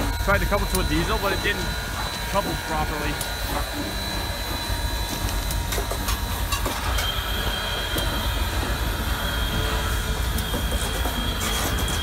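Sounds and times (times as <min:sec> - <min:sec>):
steam locomotive rumble: 0:00.0 - 0:12.0
thin high whine: 0:00.0 - 0:12.0.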